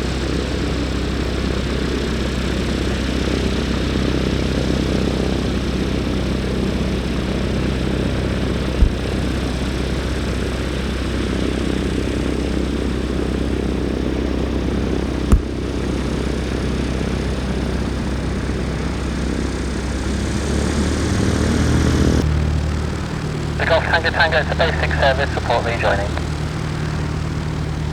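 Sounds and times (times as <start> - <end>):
aircraft engine running: 0.0 - 27.9.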